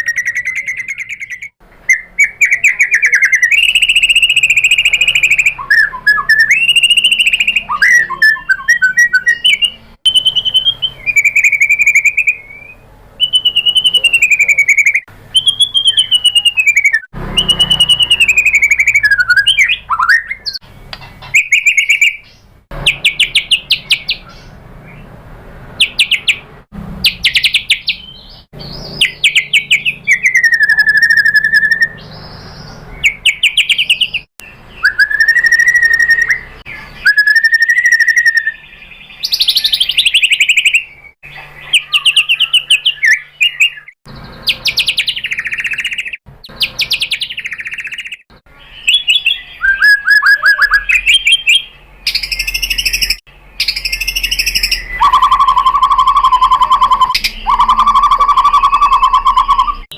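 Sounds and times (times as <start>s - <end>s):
bird singing whistled phrases: 0.0s - 20.6s, 21.3s - 25.0s, 27.0s - 59.9s.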